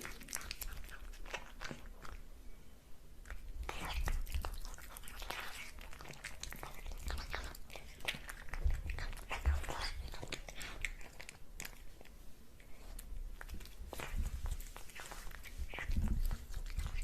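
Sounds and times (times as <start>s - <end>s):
crunchy eating and chewing: 0.0s - 2.3s, 3.2s - 17.0s.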